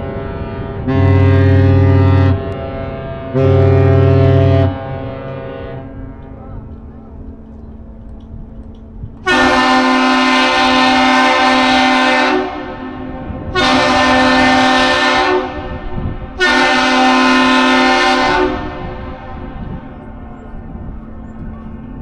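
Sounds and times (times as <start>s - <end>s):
ship horn blasts: 0.0s - 6.8s, 9.2s - 21.3s.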